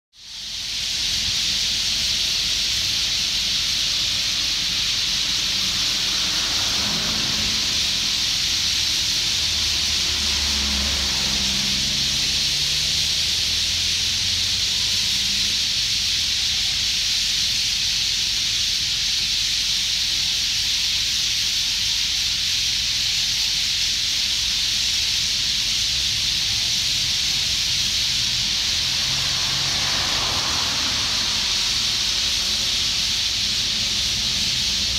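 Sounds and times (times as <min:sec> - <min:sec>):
flock of small birds chattering: 0:00.2 - 0:34.9.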